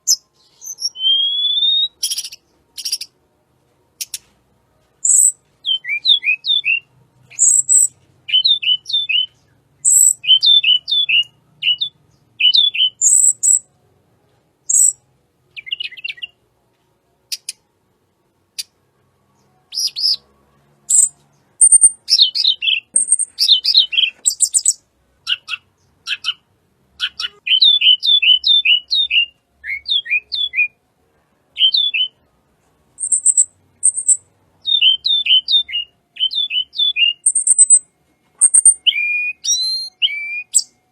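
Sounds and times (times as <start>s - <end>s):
songbird singing: 0.0s - 3.2s, 5.0s - 13.7s, 14.6s - 16.4s, 17.3s - 17.7s, 18.5s - 30.8s, 31.5s - 32.4s, 33.0s - 40.9s.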